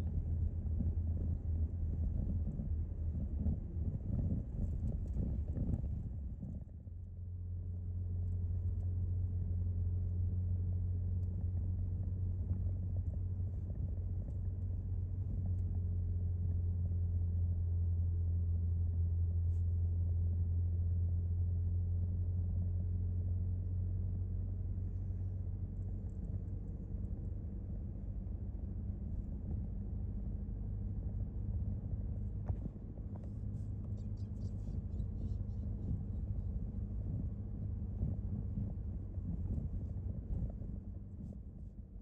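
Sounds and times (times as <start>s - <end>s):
car engine and road drone: 0.0s - 42.0s.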